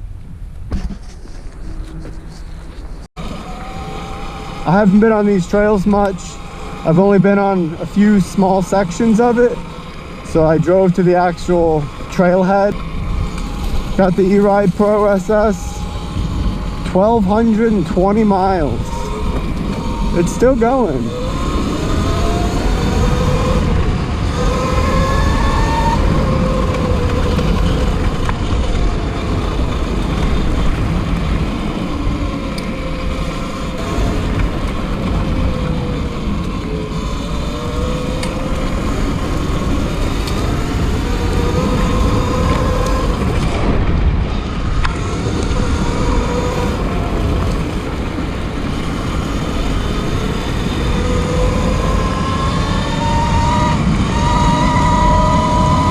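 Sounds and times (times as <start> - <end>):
heavy low rumble: 0.0 - 55.9
electric bike motor whining: 1.6 - 55.9.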